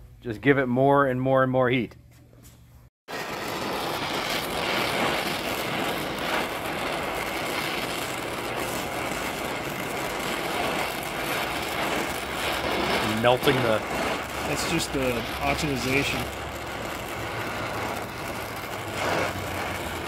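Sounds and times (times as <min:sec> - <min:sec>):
cutting torch hissing: 0:03.1 - 0:20.0.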